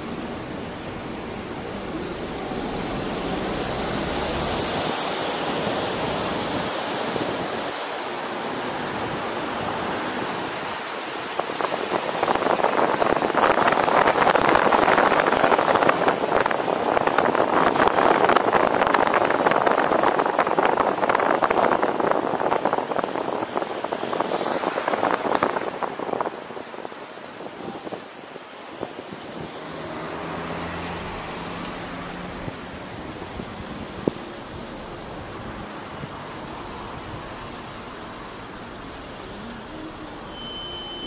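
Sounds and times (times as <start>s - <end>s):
wind rushing over microphone: 0.0s - 40.0s
tyre and road noise: 0.0s - 41.0s.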